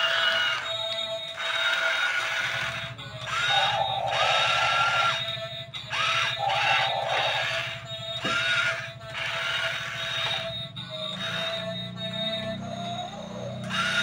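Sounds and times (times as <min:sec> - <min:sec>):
small electric motors whining: 0:00.0 - 0:14.0.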